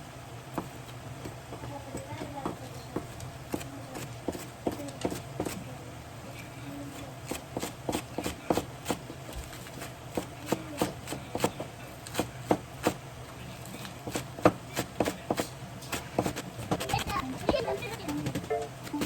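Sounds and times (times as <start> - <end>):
steady low hum: 0.0 - 19.0
knife chopping on cutting board: 0.5 - 5.6, 7.2 - 13.0, 13.9 - 19.0.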